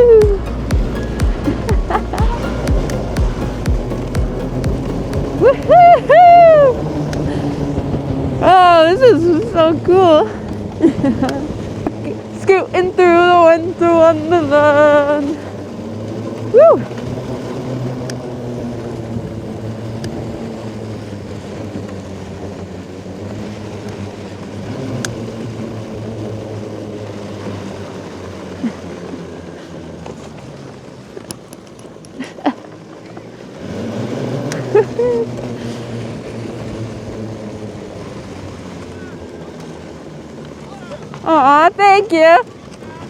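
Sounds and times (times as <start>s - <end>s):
electric atv motors humming: 0.0s - 43.0s.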